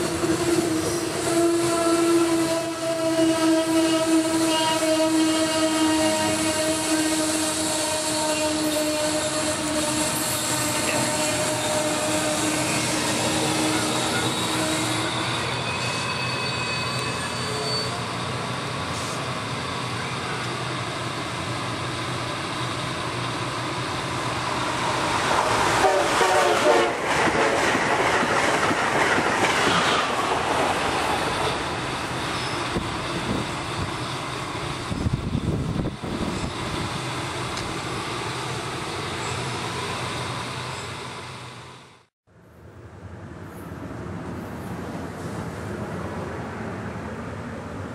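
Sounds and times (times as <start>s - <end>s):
standing train rumble: 0.0s - 42.1s
high-speed train passing: 0.0s - 47.9s.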